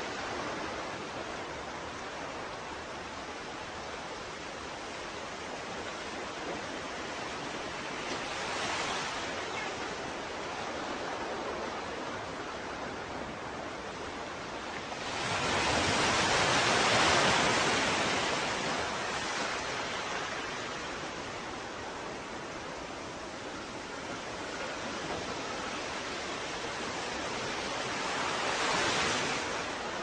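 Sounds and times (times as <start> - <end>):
ocean waves washing: 0.0 - 30.0.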